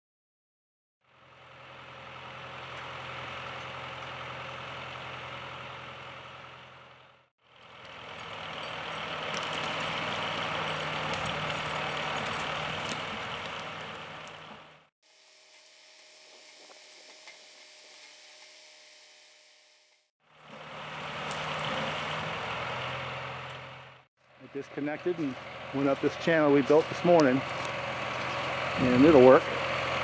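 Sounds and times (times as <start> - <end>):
tractor engine running: 1.1 - 30.0.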